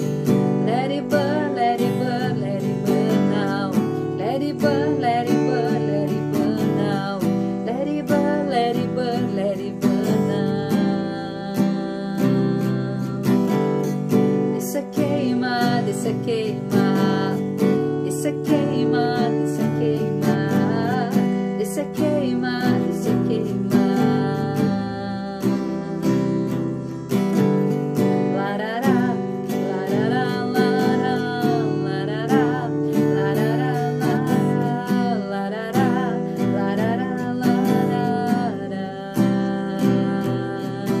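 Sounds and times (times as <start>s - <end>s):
acoustic guitar strumming: 0.0s - 41.0s
woman singing: 0.0s - 41.0s.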